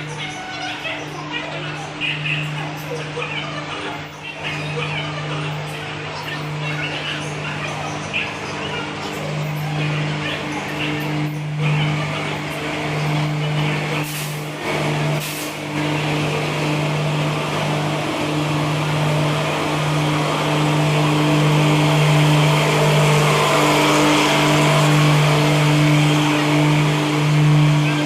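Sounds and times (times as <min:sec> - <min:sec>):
low machine hum with held tones: 0:00.0 - 0:28.0
train rushing and rolling: 0:00.0 - 0:28.0.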